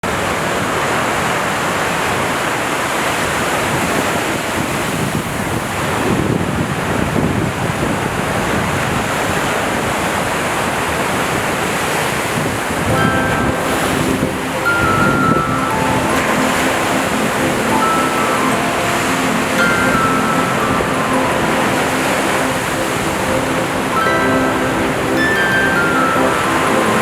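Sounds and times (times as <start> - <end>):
sea waves breaking on beach: 0.1 - 27.0
wind on microphone: 3.6 - 27.0.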